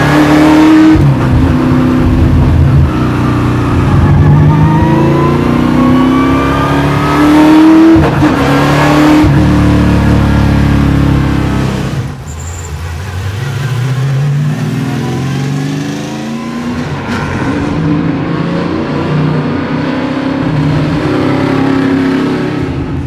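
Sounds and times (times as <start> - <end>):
car engine accelerating hard: 0.0 - 12.2, 13.2 - 23.0.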